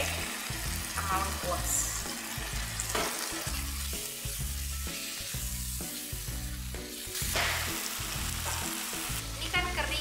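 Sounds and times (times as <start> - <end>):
background music: 0.0 - 10.0
spice paste sizzling in oil: 0.0 - 10.0.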